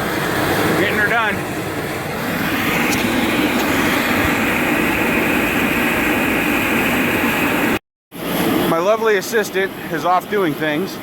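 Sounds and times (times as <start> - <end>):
air blower running: 0.0 - 11.0.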